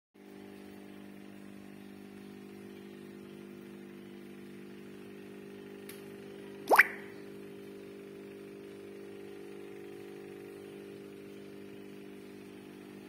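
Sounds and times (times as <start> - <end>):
aquarium air pump humming: 0.2 - 13.0.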